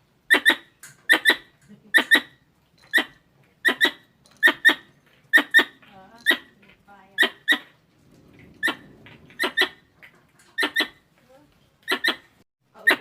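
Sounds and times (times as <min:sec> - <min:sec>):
squirrel chirping: 0:00.3 - 0:07.8, 0:08.6 - 0:09.9, 0:10.6 - 0:11.1, 0:11.8 - 0:13.0.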